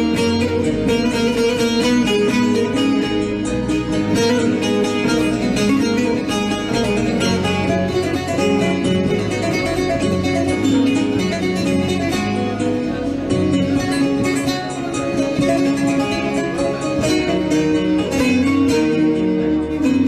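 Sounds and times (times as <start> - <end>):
bass line: 0.0 - 20.0
plucked string melody: 0.0 - 20.0.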